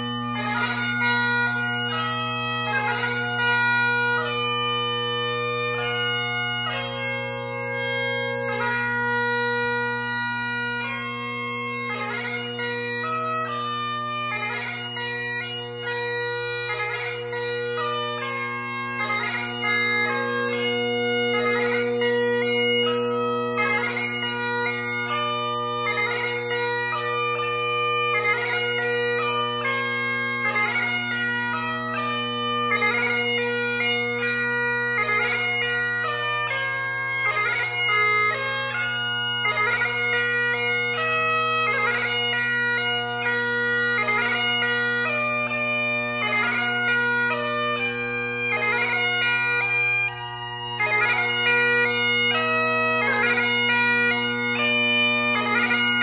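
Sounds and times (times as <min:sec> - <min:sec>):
bagpipe playing: 0:00.0 - 0:56.0.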